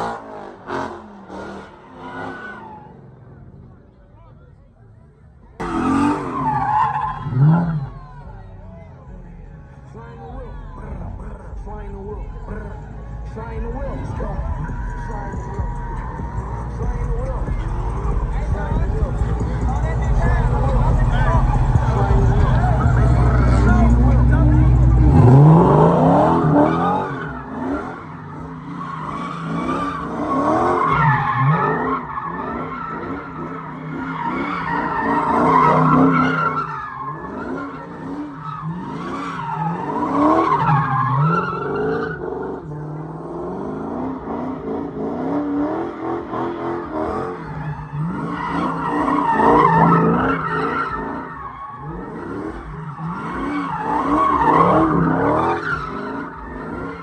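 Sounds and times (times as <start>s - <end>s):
tyres squealing and skidding: 0.0s - 4.3s, 5.5s - 8.8s, 10.0s - 57.0s
car engine revving: 0.0s - 57.0s.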